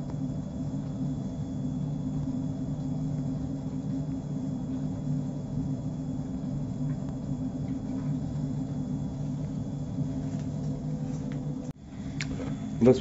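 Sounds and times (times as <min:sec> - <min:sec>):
boiler rumbling: 0:00.0 - 0:13.0
faint hum: 0:00.0 - 0:13.0.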